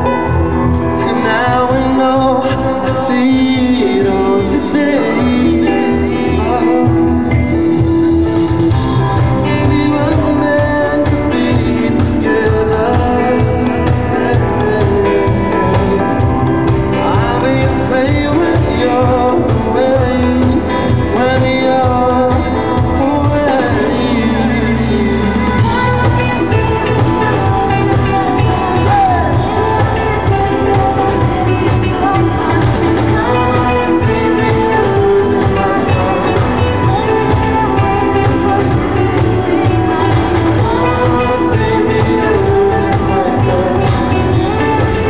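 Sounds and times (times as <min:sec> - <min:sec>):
live pop band with male vocal: 0:00.0 - 0:45.0.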